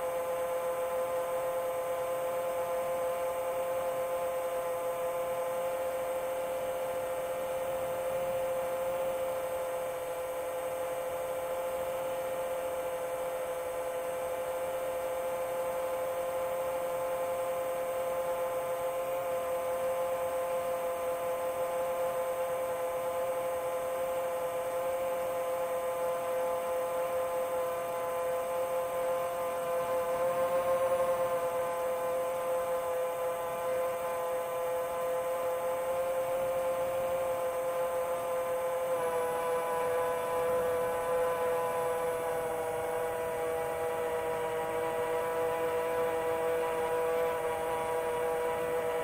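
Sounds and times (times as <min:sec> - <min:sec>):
drone motors humming: 0:00.0 - 0:49.0.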